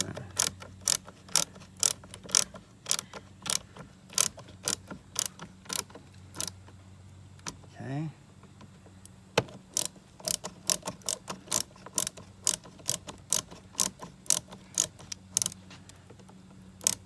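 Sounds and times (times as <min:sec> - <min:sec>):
hand driver clicking: 0:00.0 - 0:06.8, 0:08.4 - 0:17.0.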